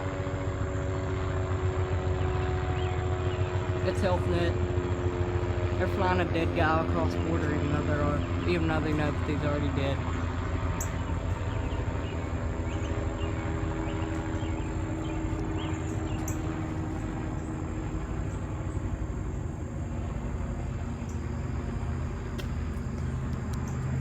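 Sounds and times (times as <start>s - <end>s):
distant helicopter drone: 0.0s - 24.0s.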